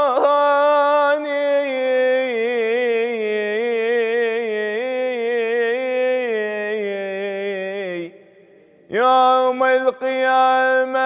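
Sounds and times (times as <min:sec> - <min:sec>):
man singing unaccompanied: 0:00.0 - 0:08.1, 0:08.9 - 0:11.0.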